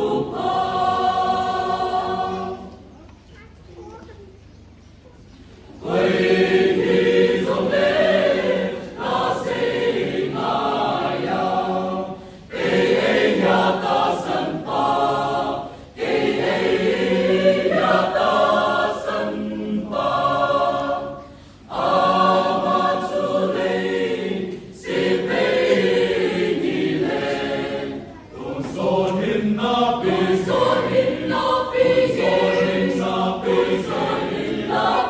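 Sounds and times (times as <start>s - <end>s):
mixed choir singing a hymn: 0.0s - 2.9s, 5.6s - 35.0s.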